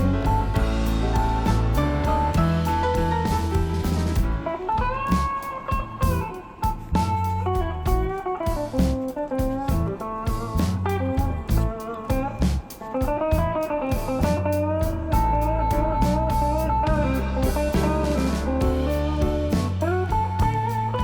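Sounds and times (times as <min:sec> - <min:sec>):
blues guitar music: 0:00.0 - 0:21.0.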